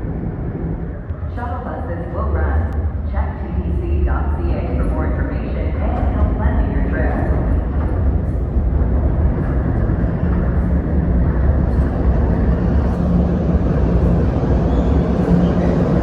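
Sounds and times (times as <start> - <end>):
low steady hum: 0.0 - 16.0
subway train rumbling: 0.0 - 16.0.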